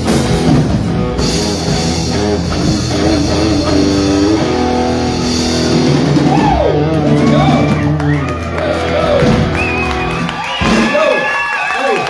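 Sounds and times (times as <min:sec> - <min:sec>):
electric guitar: 0:00.0 - 0:11.0
live rock band playing: 0:00.0 - 0:11.4.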